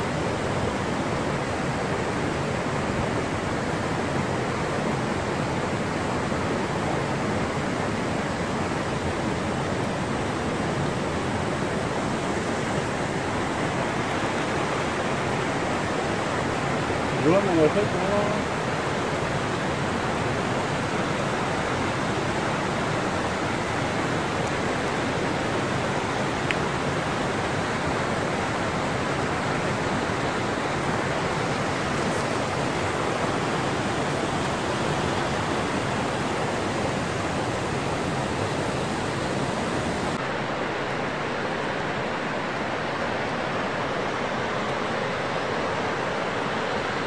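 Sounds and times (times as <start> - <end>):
rushing water: 0.0 - 47.0.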